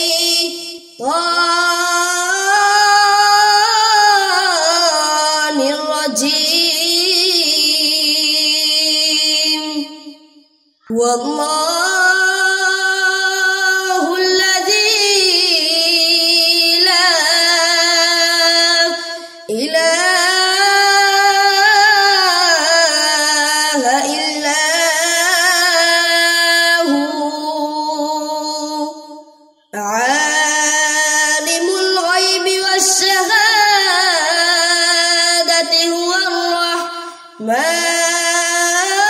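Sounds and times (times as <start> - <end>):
boy reciting melodically: 0.0 - 10.2, 10.9 - 39.0.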